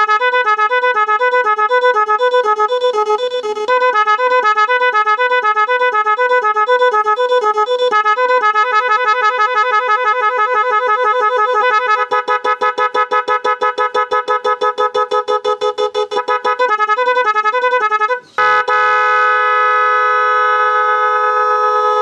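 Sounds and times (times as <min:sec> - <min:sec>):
pressure horn two-tone pattern: 0:00.0 - 0:22.0.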